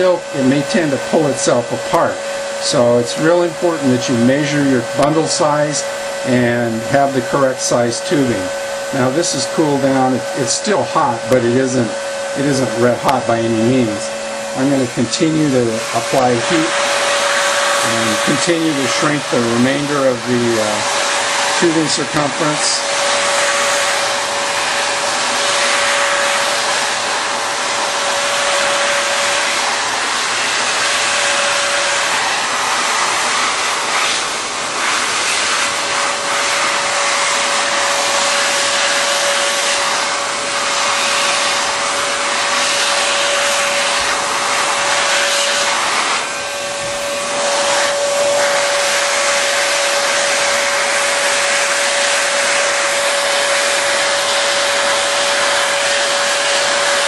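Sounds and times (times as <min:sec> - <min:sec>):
fan motor whine: 0:00.0 - 0:57.0
heat gun blowing hiss: 0:00.0 - 0:57.0.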